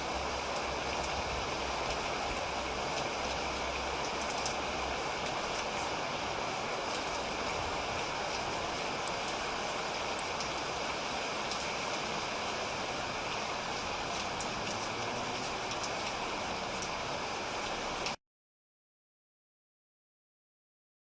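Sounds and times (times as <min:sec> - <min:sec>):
raindrops ticking: 0:00.0 - 0:18.2
steady rain hiss: 0:00.0 - 0:18.2.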